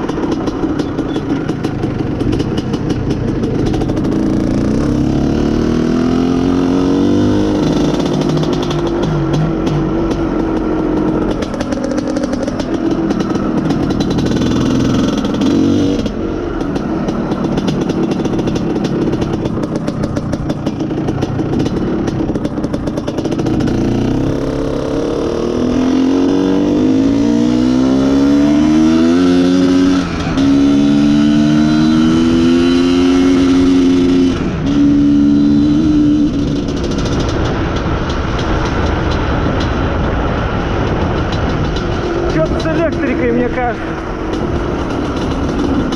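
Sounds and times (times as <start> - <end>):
two-stroke motorcycle engine: 0.0 - 45.9.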